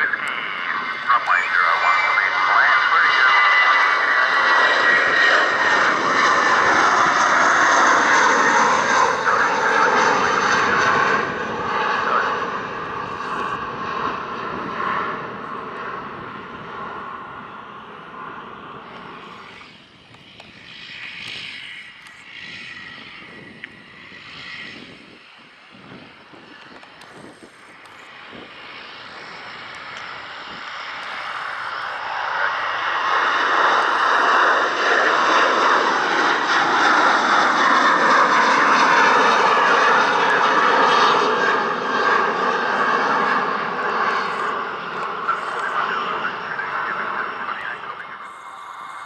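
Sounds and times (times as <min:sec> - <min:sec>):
faint jet noise: 0:00.0 - 0:49.0
jet engines roaring at takeoff: 0:00.0 - 0:49.0.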